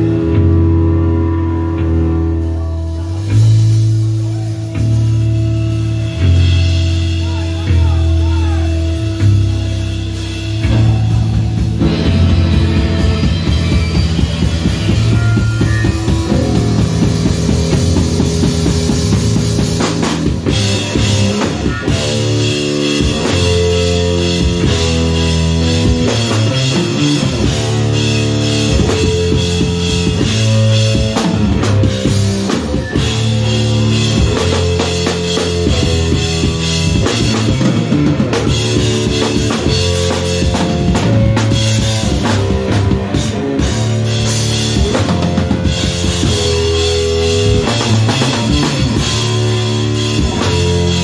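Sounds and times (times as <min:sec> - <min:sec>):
drum kit beat: 0:00.0 - 0:51.0
electric bass guitars playing riffs: 0:00.0 - 0:51.0.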